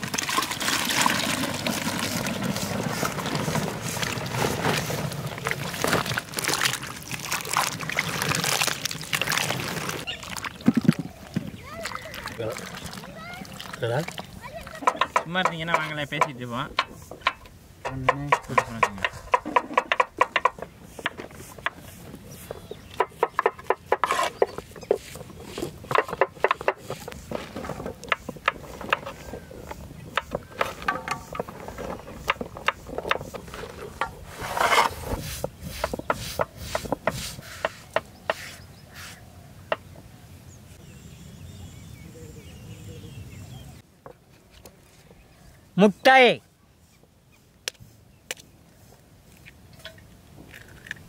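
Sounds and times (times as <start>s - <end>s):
faint steady background noise: 0.0s - 51.0s.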